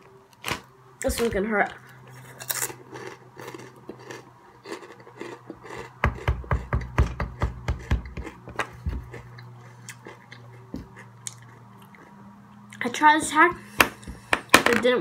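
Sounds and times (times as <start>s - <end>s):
chips being chewed: 0.3s - 12.8s.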